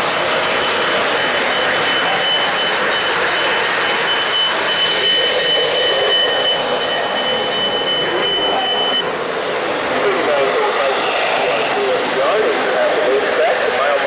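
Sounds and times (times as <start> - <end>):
thin high whine: 0.0 - 14.0.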